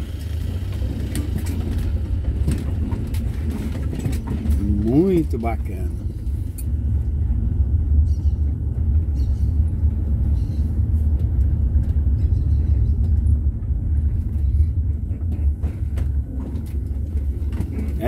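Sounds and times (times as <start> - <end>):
van engine and road rumble: 0.0 - 18.0.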